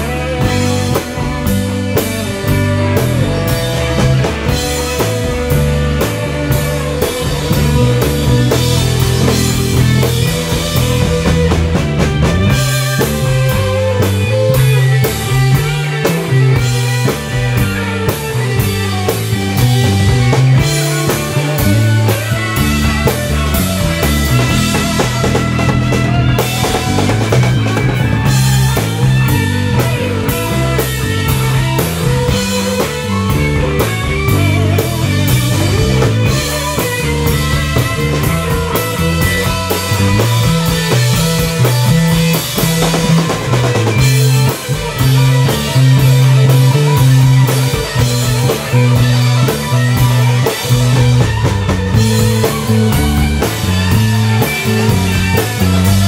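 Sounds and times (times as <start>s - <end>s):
drum kit: 0.0s - 56.0s
electric guitars: 0.0s - 56.0s
heavy bass line: 0.0s - 56.0s.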